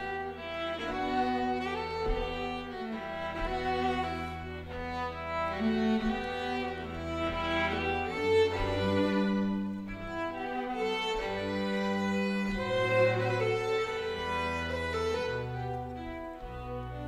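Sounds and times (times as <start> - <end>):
violins playing fiddle tune: 0.0 - 17.0.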